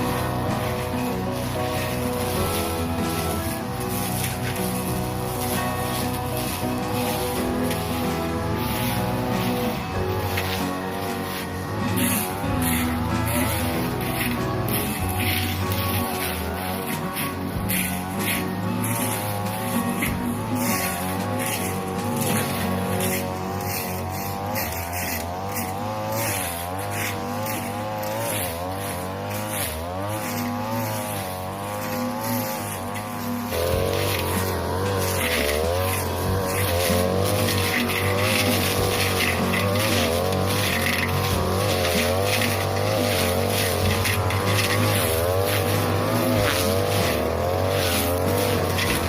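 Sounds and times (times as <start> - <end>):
brush cutter engine at high revs: 0.0 - 49.0
grass swishing as cut: 0.0 - 49.0.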